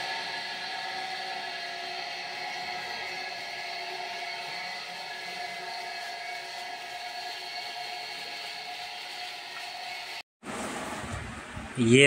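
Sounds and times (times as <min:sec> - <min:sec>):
electric pump motor whine: 0:00.0 - 0:11.8.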